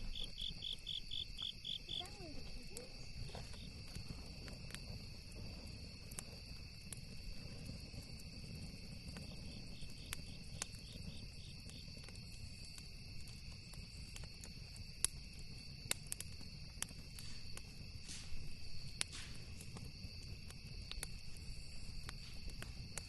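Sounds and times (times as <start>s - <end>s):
campfire crackling and popping: 0.0s - 23.0s
cricket chirping: 0.0s - 23.0s
night insects trilling: 0.0s - 23.0s.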